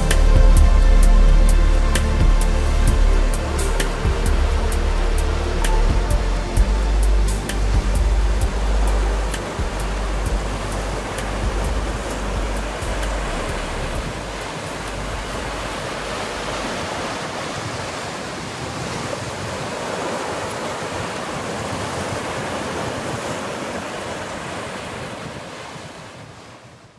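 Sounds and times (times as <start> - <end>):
sea surf washing onto beach: 0.0 - 26.9
wind rumble on microphone: 0.0 - 26.9.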